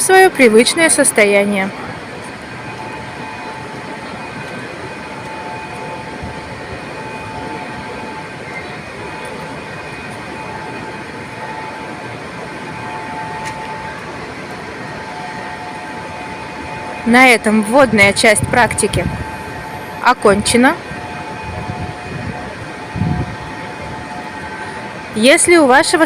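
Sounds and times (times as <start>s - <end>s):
faint whining tones: 0.0s - 26.0s
moving train rumble: 0.0s - 26.0s.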